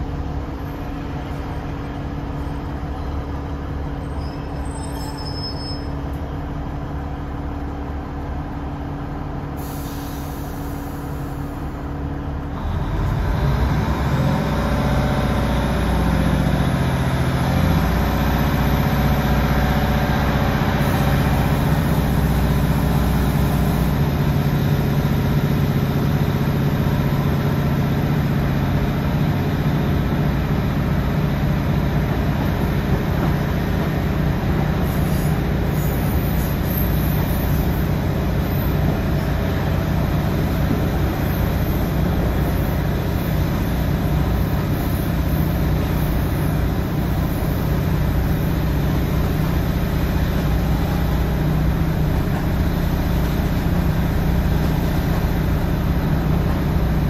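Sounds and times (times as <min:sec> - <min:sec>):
train diesel engine: 0:00.0 - 0:57.0.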